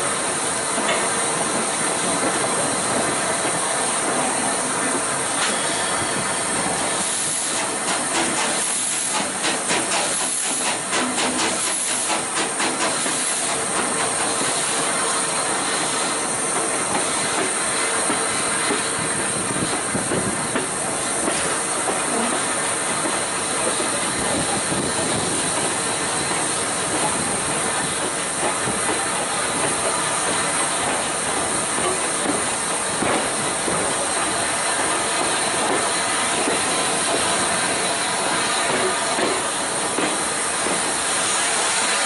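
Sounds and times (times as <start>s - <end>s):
steam hissing: 0.0s - 42.0s.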